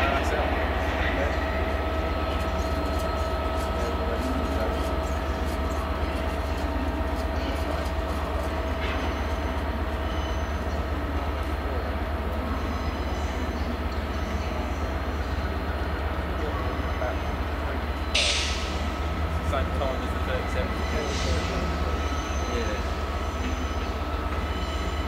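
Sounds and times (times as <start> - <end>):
train rumbling and whining: 0.0 - 25.0.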